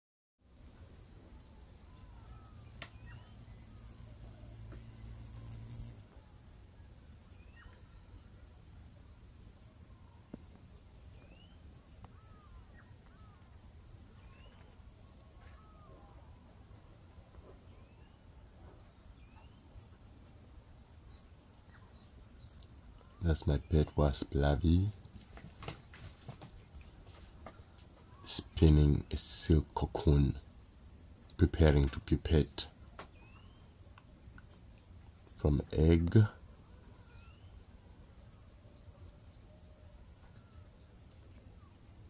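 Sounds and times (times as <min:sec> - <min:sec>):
crickets trilling: 0:00.4 - 0:42.0.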